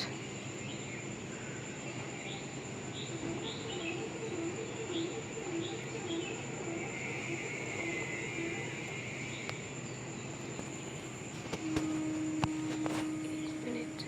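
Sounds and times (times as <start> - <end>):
high bird chirps: 0.0 - 11.9
bird hooting: 0.0 - 14.0.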